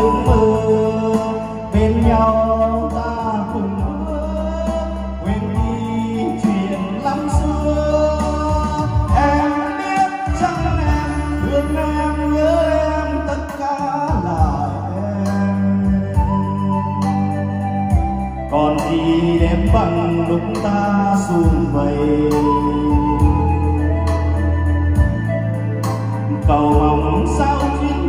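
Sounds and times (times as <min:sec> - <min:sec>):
man singing into microphone: 0:00.0 - 0:25.4, 0:26.3 - 0:28.0
karaoke backing track heavy bass: 0:00.0 - 0:28.0.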